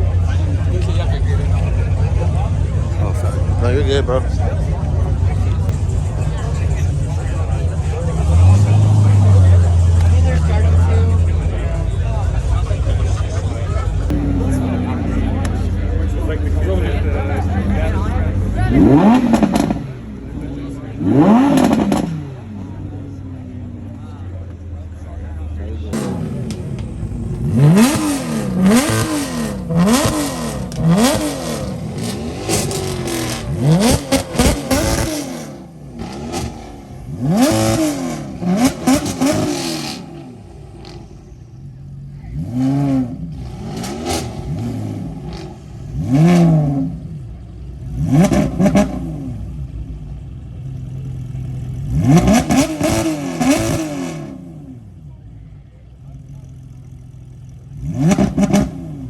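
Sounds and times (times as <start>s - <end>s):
sports car engine revving: 0.0s - 59.0s.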